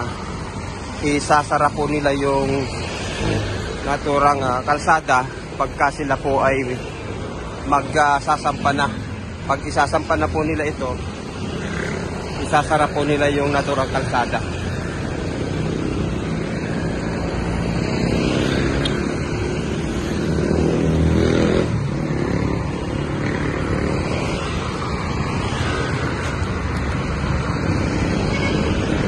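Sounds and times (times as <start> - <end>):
cars and motorcycles passing: 0.0 - 29.0.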